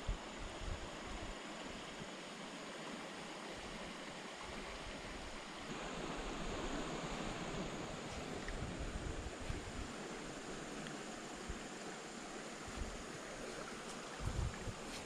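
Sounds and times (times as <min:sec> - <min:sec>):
river water flowing: 0:00.1 - 0:15.0.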